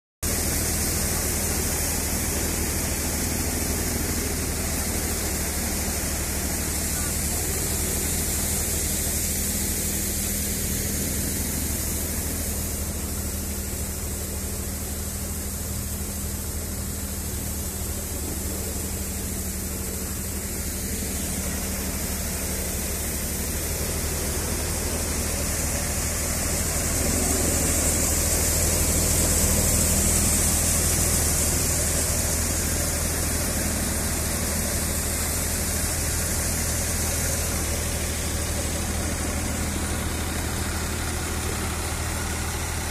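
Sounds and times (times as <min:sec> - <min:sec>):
low engine hum: 0:00.2 - 0:42.9
thresher fans rushing noise: 0:00.3 - 0:42.9.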